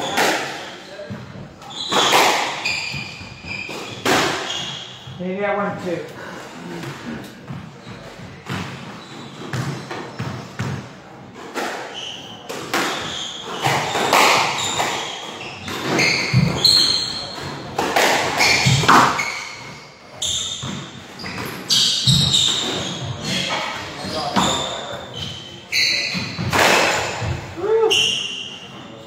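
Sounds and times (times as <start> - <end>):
shoes squeaking on wooden floor: 0.0 - 10.8, 11.4 - 29.0.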